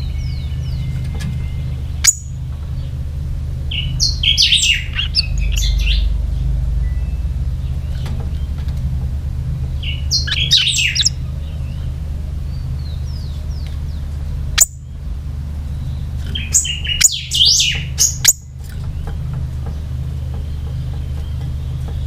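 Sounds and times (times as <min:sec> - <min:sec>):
bird chirping: 0:00.0 - 0:22.0
steady low hum: 0:00.0 - 0:22.0.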